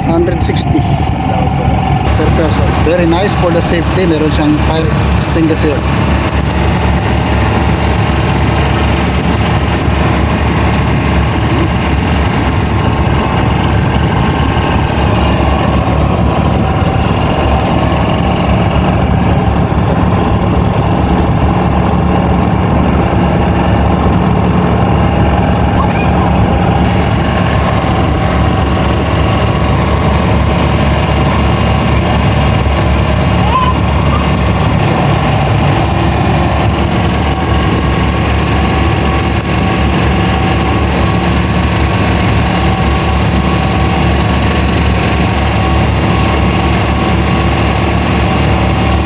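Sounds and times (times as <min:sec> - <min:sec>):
boat engine low drone: 0:00.0 - 0:49.0.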